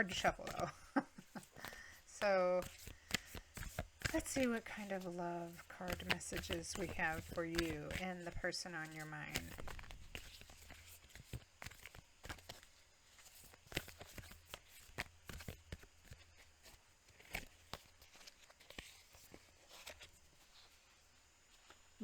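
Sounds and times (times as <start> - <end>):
cards being shuffled: 0.0 - 21.9.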